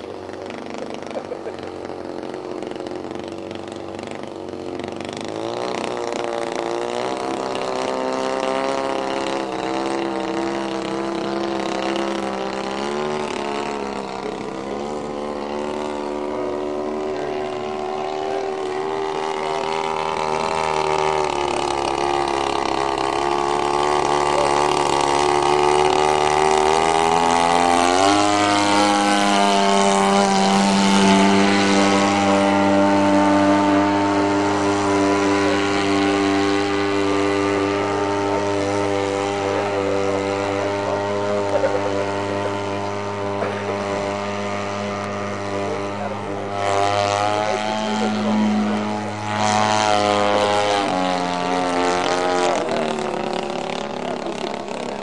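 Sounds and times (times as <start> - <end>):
model plane engine: 0.0 - 55.0.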